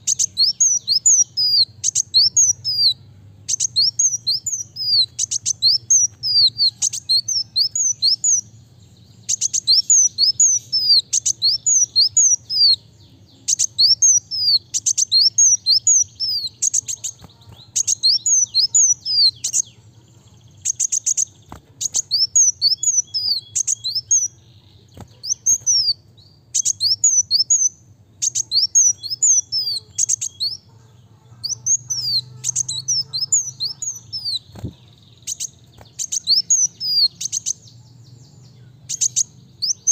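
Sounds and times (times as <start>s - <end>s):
sunbird singing: 0.0s - 39.9s.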